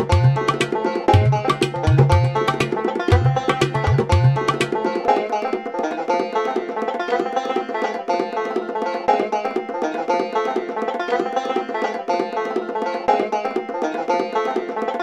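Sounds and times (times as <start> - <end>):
bluegrass music with fast banjo: 0.0 - 15.0.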